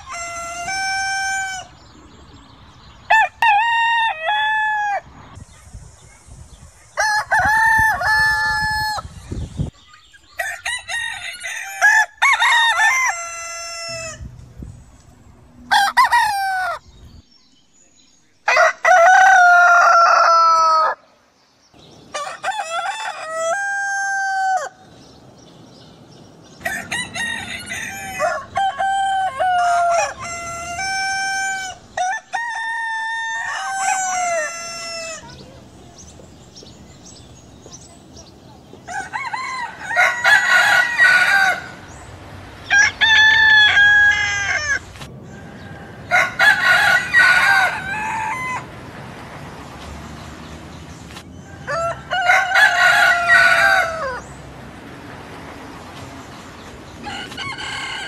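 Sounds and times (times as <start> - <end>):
roosters crowing: 0.0 - 5.4, 7.0 - 9.3, 10.2 - 17.1, 18.4 - 21.2, 21.8 - 25.2, 26.5 - 37.4, 38.7 - 49.0, 51.2 - 54.6, 56.3 - 58.0.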